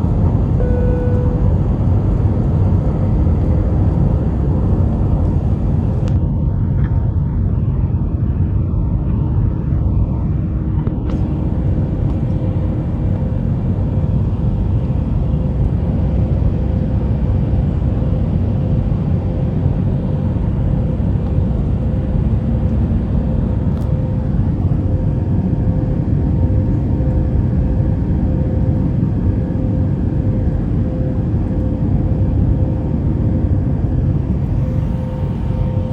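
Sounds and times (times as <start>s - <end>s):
jet engine rumble and airflow: 0.0s - 35.9s
mid-pitched hum: 0.0s - 35.9s.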